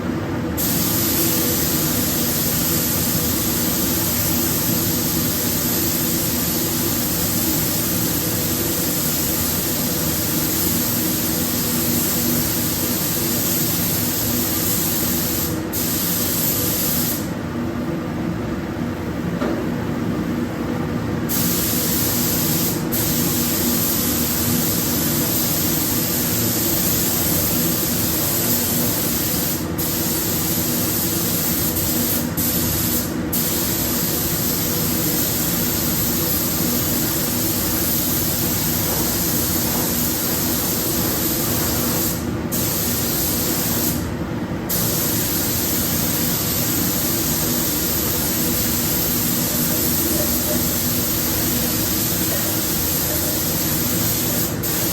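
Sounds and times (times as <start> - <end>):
spray gun hissing: 0.6 - 17.3, 21.3 - 44.1, 44.7 - 54.9.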